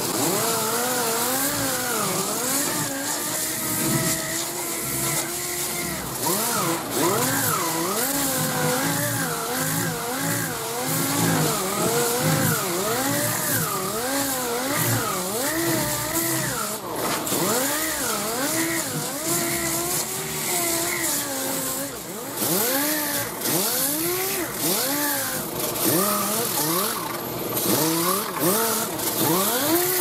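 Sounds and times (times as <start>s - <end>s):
pneumatic sander running: 0.0s - 30.0s.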